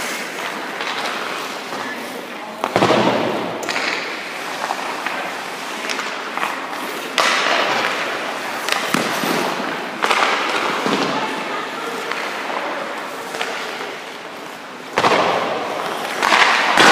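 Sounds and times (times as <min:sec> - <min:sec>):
puck and stick clicks: 0:00.0 - 0:01.8, 0:02.6 - 0:16.9
skate blades scraping on ice: 0:00.0 - 0:16.9.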